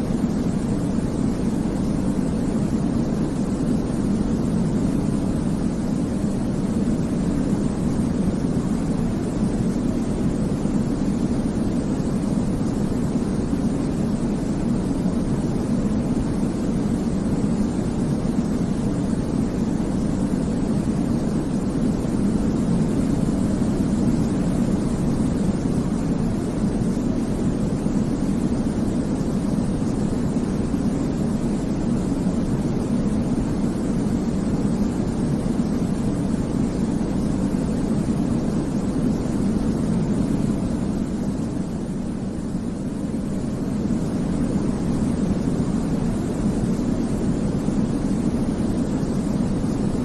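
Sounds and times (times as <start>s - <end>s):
deep white noise rumble: 0.0s - 50.0s.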